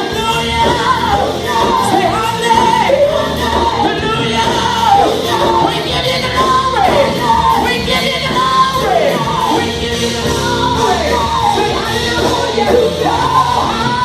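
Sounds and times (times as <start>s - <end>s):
band playing worship music: 0.0s - 14.0s
person singing: 0.0s - 14.0s.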